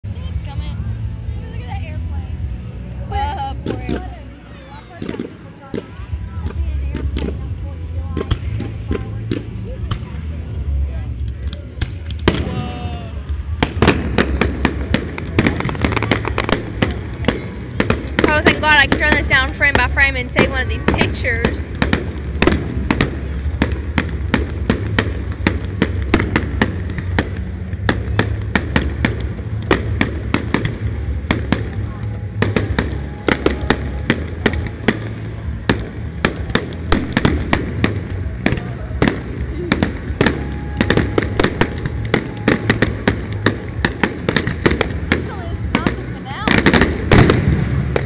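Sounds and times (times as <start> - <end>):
fireworks bangs and pops: 3.1 - 4.3, 4.9 - 48.0.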